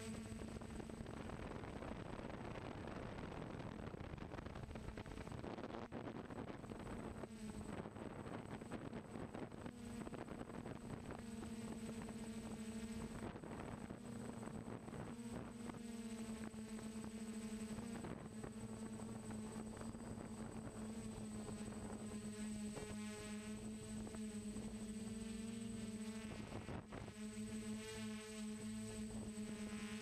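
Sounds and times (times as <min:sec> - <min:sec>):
faint high whine: 0:00.0 - 0:30.0
quadcopter motors humming: 0:00.0 - 0:30.0.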